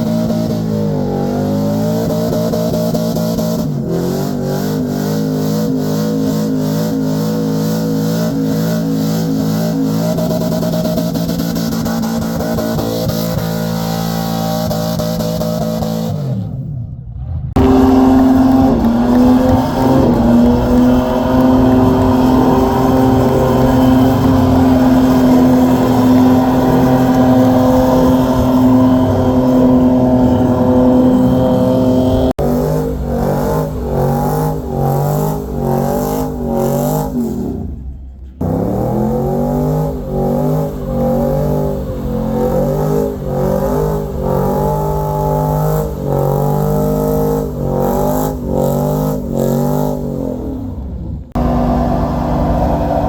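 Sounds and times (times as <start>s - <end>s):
truck engine revving: 0.0s - 53.0s.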